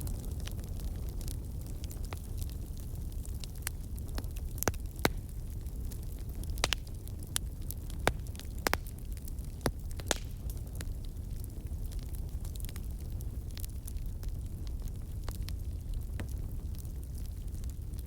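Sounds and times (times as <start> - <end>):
burning wood crackling: 0.0 - 18.0
low fire rumble: 0.0 - 18.0.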